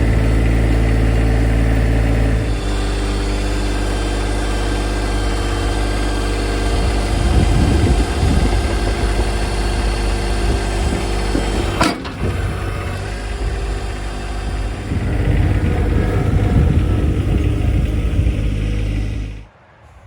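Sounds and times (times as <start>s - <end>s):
tractor diesel engine running: 0.0s - 19.5s.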